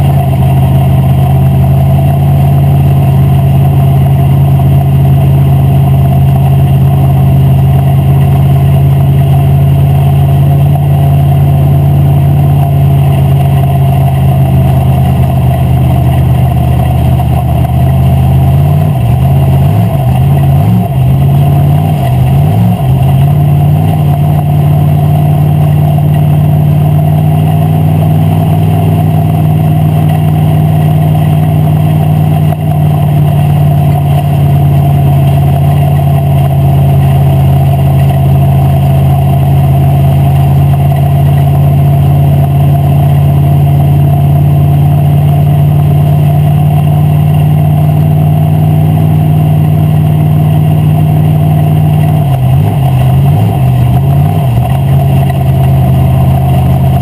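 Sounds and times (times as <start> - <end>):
race car engine running: 0.0 - 57.0.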